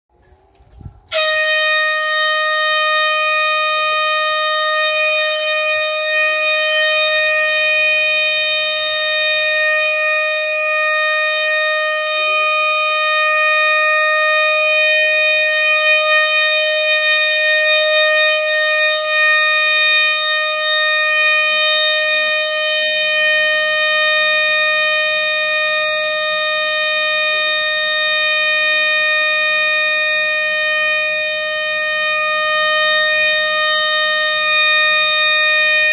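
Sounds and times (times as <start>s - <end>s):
siren steady tone: 0.1s - 35.9s.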